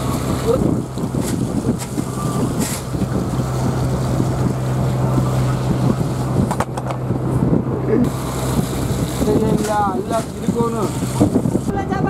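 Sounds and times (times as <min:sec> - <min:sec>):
boat engine droning: 0:00.0 - 0:12.0
wind buffeting microphone: 0:00.0 - 0:12.0.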